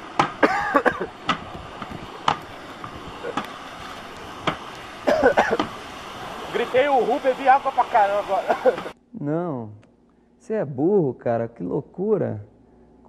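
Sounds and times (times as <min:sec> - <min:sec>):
steady background noise: 0:00.0 - 0:10.6.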